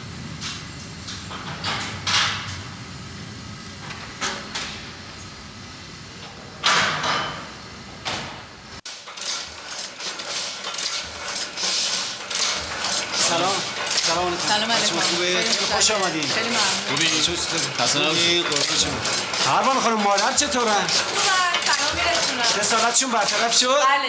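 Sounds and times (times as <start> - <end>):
room noise: 0.0 - 24.0.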